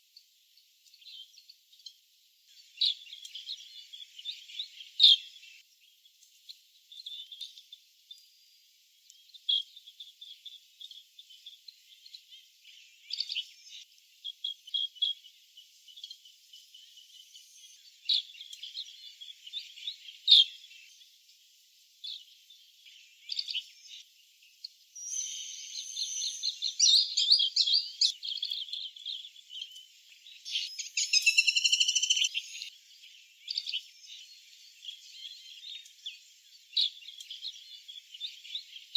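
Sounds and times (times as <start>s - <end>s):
birds chirping and trilling: 2.5s - 5.6s, 9.4s - 21.2s, 22.0s - 38.9s.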